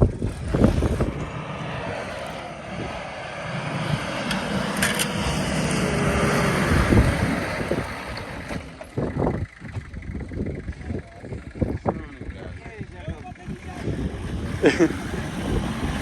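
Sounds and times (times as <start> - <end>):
off-road engine running hard: 0.0 - 16.0.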